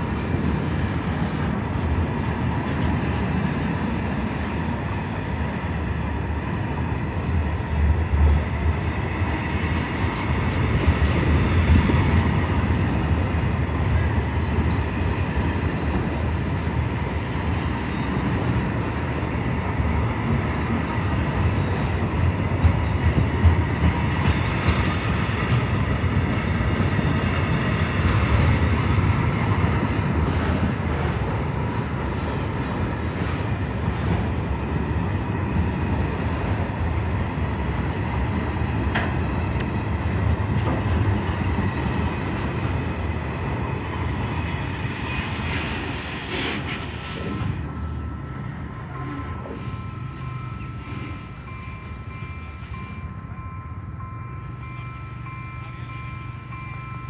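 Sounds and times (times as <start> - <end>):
rumble of train wheels on rail: 0.0 - 57.0.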